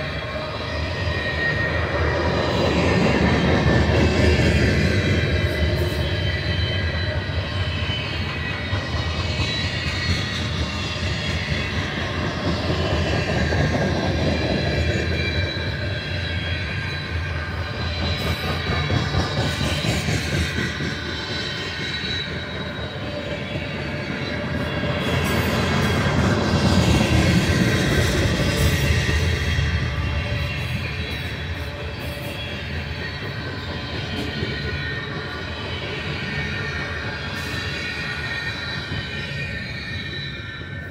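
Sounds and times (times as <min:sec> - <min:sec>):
high wheel squeal: 0:00.0 - 0:40.9
train wheels rumbling on rail: 0:00.0 - 0:40.9.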